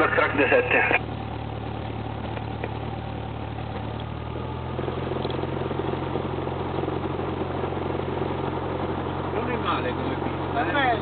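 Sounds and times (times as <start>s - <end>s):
airplane engine running: 0.0s - 11.0s.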